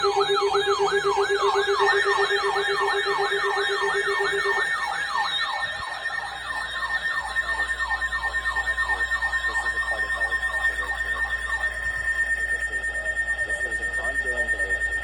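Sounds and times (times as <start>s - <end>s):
fast-beeping low tone: 0.0s - 14.8s
electronic siren yelping: 0.0s - 15.0s.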